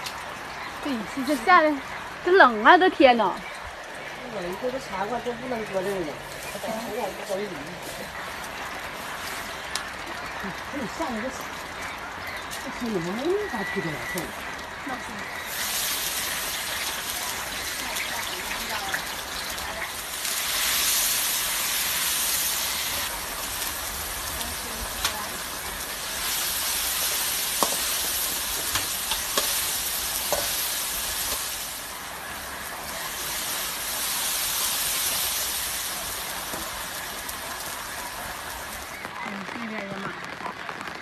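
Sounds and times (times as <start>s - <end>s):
hot oil sizzling in a wok: 0.0s - 40.8s.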